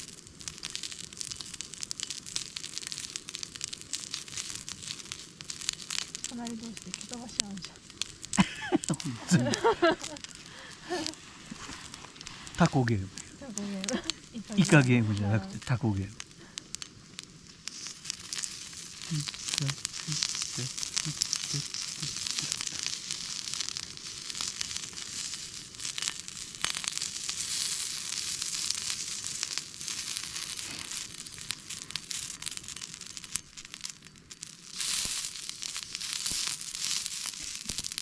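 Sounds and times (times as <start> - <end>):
sausages sizzling in a frying pan: 0.0 - 38.0.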